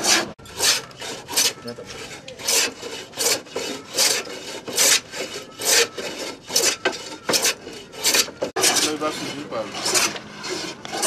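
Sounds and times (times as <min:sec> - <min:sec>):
hand plane shaving wood: 0:00.0 - 0:11.0.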